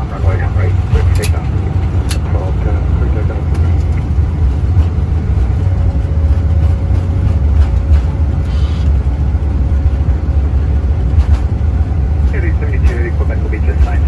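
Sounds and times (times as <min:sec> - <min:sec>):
aircraft deep rumble: 0:00.0 - 0:14.0.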